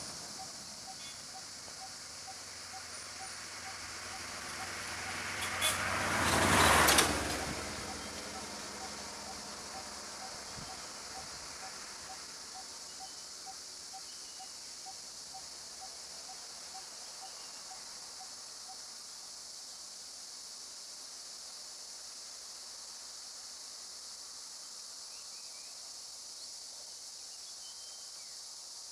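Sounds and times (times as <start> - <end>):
insect chorus drone: 0.0 - 28.9.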